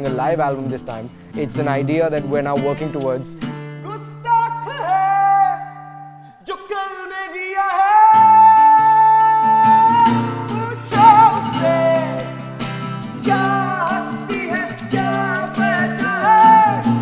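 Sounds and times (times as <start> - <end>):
acoustic guitar: 0.0 - 17.0
man singing: 0.0 - 17.0.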